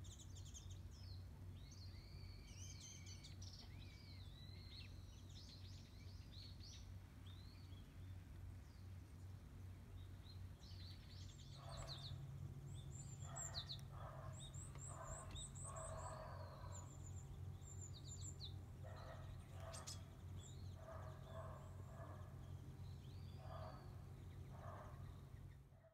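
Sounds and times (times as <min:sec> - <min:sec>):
birds chirping faintly: 0:00.0 - 0:25.9.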